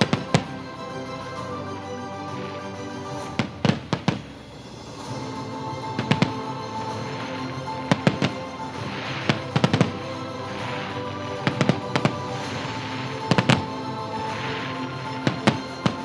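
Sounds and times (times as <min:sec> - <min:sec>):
fireworks bangs: 0:00.0 - 0:00.7, 0:03.2 - 0:16.0
crackling hiss of fireworks: 0:00.0 - 0:16.0
steady music: 0:00.0 - 0:16.0.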